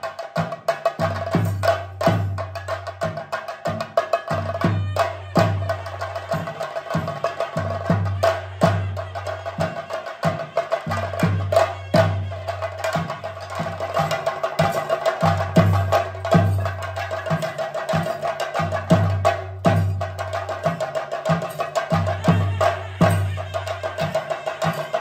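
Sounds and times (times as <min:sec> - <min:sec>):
drums beaten with sticks: 0:00.0 - 0:25.0.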